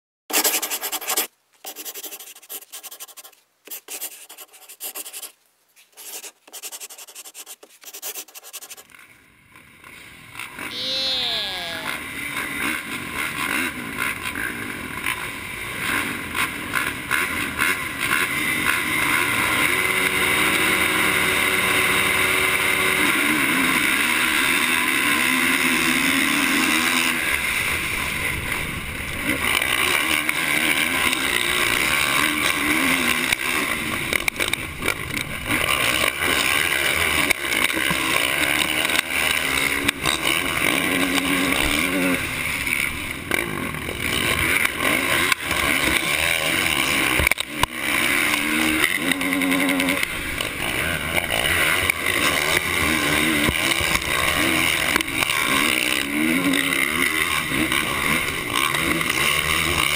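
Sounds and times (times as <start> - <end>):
dirt bike engine revving: 8.8 - 59.9
other motorbikes racing: 8.9 - 59.9.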